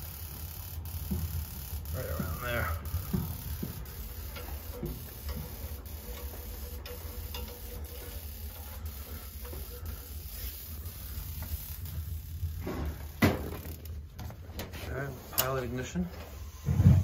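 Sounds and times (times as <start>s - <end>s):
boiler burner rumbling: 0.0s - 17.0s.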